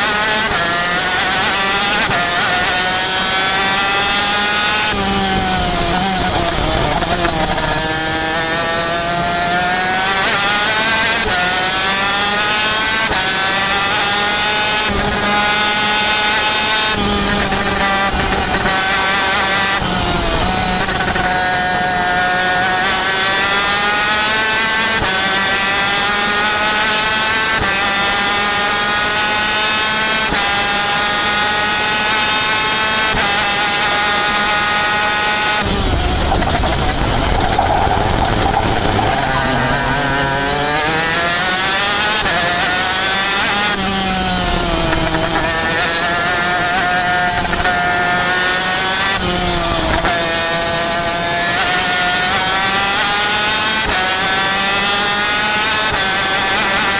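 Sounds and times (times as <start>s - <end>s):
two-stroke racing engine: 0.0s - 56.9s.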